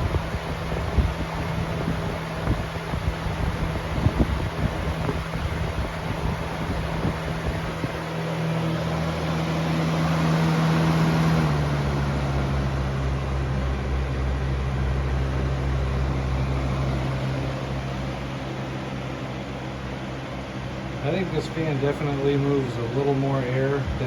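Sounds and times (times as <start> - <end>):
fan air rushing: 0.0 - 24.0
low motor hum: 0.0 - 24.0.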